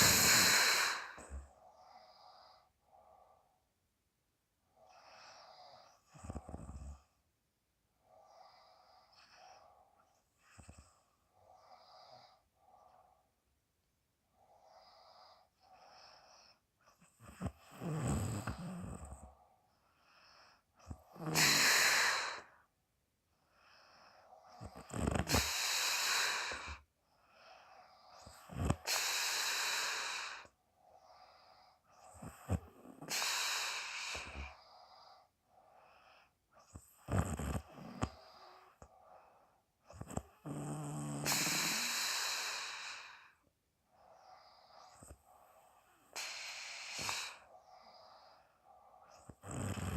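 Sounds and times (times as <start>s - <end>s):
woman snoring with puffed breaths: 0.0s - 3.4s, 4.7s - 7.2s, 8.0s - 13.2s, 14.3s - 22.7s, 23.5s - 49.9s.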